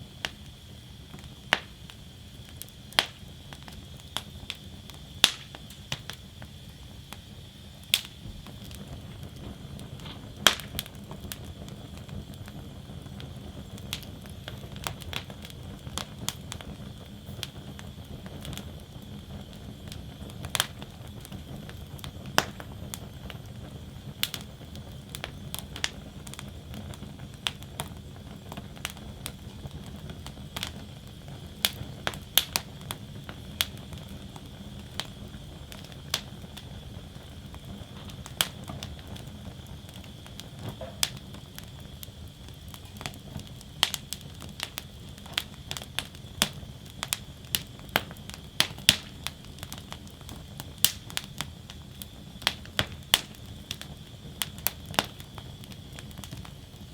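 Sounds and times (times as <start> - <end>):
burning wood crackling and popping: 0.0 - 56.9
rush of flames: 0.0 - 56.9.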